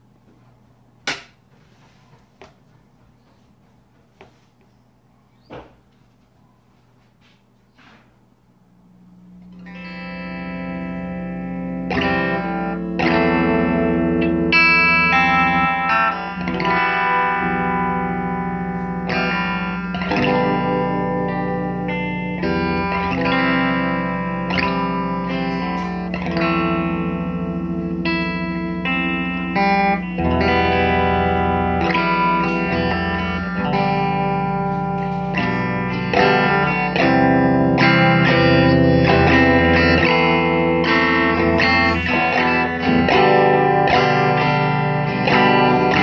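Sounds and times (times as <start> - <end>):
electric guitar notes and chords: 8.8 - 46.0.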